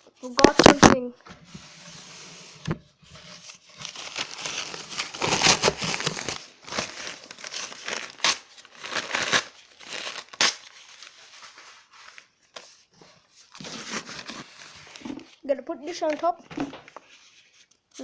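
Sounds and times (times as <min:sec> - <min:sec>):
paper crinkling and rustling: 0:03.1 - 0:18.0.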